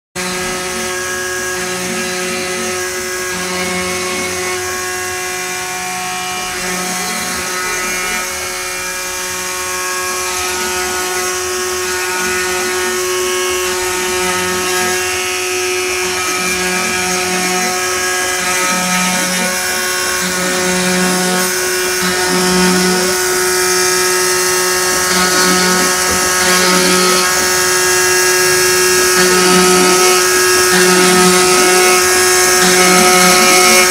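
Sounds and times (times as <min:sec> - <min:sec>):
spindle motor whining: 0:00.2 - 0:33.9
stepper motors humming: 0:06.4 - 0:33.9.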